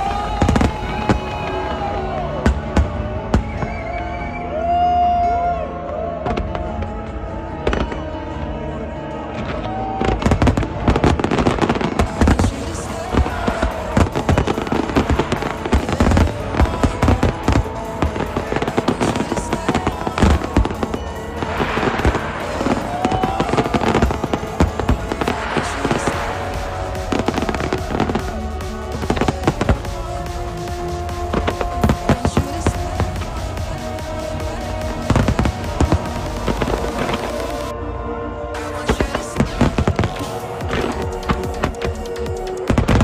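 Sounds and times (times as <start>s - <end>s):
fireworks bangs: 0.0s - 4.0s, 9.4s - 37.7s, 38.6s - 43.0s
fireworks crackling: 0.0s - 4.2s, 9.3s - 37.7s, 38.6s - 43.0s.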